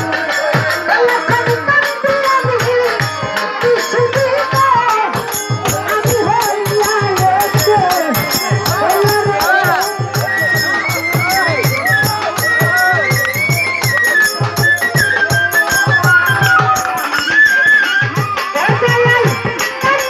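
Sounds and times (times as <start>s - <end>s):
woman singing into a microphone: 0.0s - 13.6s, 14.4s - 20.0s
steady drum beat: 0.0s - 20.0s.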